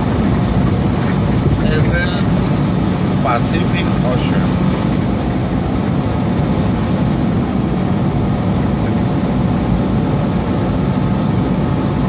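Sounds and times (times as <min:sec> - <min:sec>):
truck engine and road noise rumble: 0:00.0 - 0:12.0.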